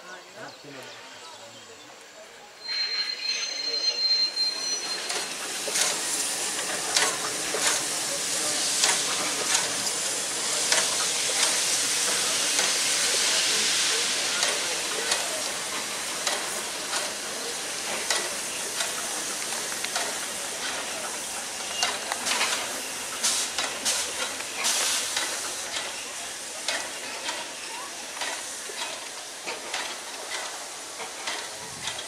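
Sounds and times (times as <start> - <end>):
steam locomotive hissing: 2.5 - 32.0.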